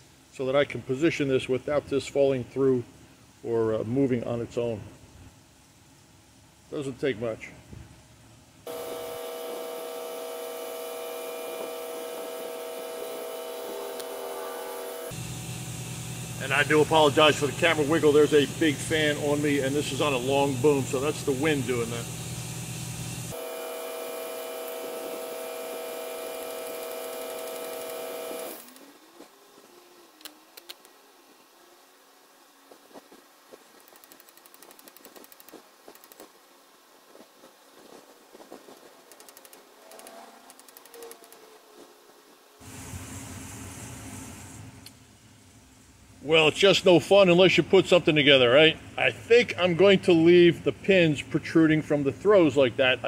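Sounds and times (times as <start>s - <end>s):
shop fan humming: 0.0s - 53.0s.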